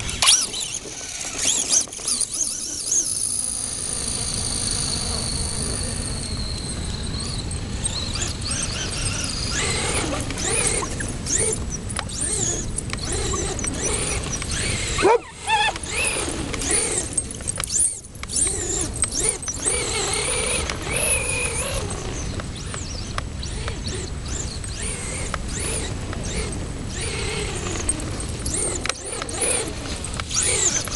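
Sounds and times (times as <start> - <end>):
dogs squealing and yelping: 0.0 - 3.4, 7.2 - 30.9
rc truck motor whine: 0.0 - 30.9.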